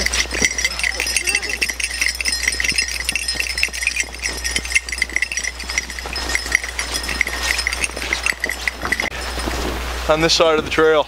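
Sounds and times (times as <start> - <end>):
dog collars jingling: 0.0 - 9.8
footsteps crunching in snow: 0.0 - 9.8.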